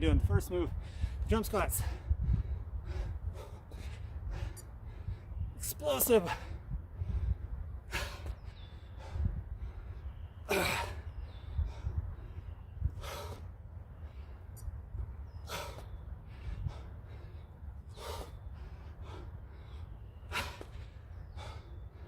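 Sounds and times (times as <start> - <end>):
man breathing hard: 0.7 - 5.6, 6.2 - 22.0.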